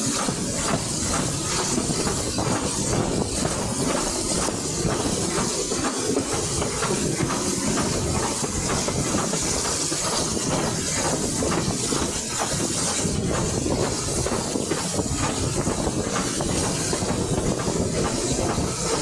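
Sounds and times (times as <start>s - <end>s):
steam locomotive exhaust beats: 0.0s - 19.0s
train wheels clattering on rails: 0.0s - 19.0s.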